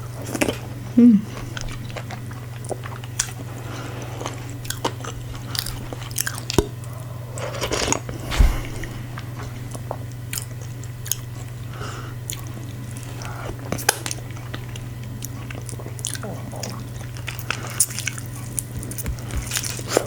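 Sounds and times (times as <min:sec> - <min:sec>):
close chewing and mouth sounds: 0:00.1 - 0:08.1, 0:09.9 - 0:20.0.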